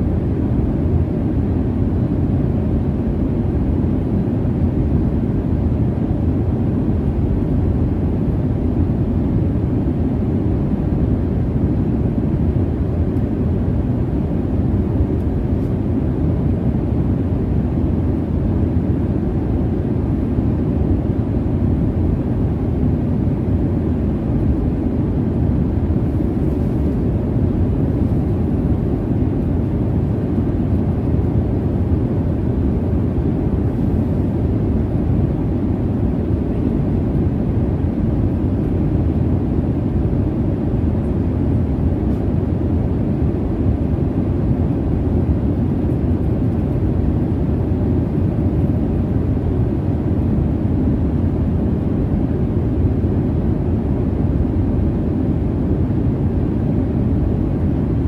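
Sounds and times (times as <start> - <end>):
jet engines and airflow rumble: 0.0 - 58.0.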